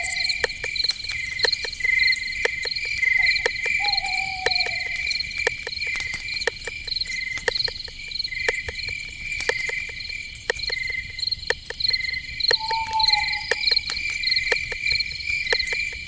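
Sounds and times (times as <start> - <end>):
crickets chirping: 0.0 - 16.0
sharp irregular clicks: 0.0 - 16.0.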